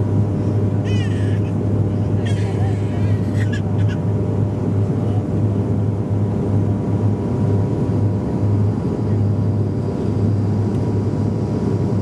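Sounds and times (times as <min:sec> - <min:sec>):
turboprop cabin drone: 0:00.0 - 0:12.0.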